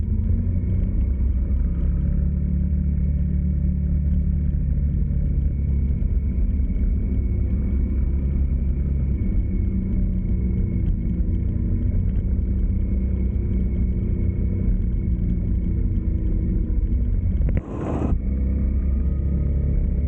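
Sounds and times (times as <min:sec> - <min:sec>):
road and wind rumble: 0:00.0 - 0:20.0
vehicle engine hum: 0:00.0 - 0:20.0.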